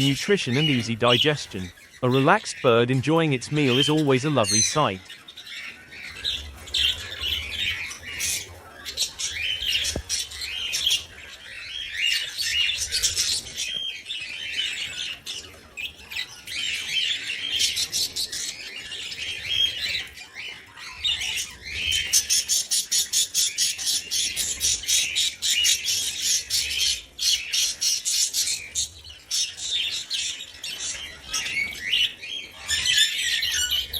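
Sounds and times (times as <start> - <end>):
budgerigar chirping and squawking: 0.0 - 33.9.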